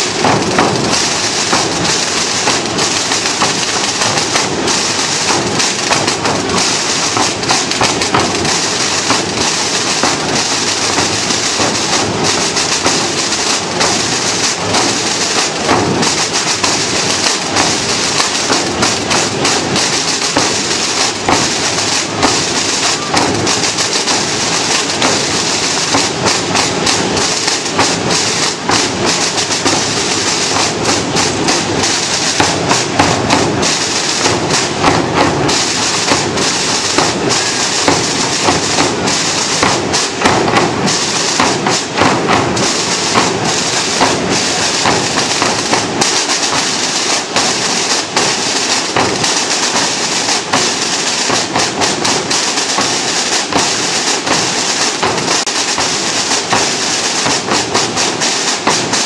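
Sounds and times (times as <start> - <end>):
bass drum thuds: 0.0 - 48.2
snare drums rattling: 0.0 - 59.0.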